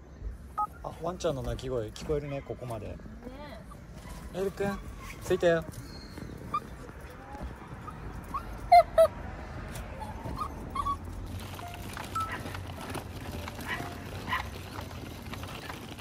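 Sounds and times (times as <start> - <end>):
dogs barking and yipping: 1.9 - 16.0.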